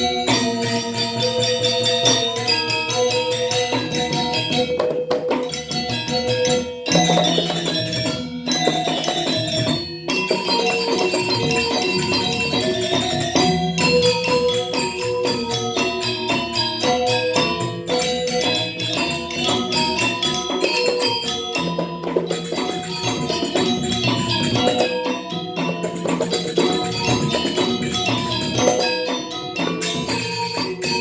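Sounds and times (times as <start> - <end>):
gamelan dance music: 0.0 - 31.0.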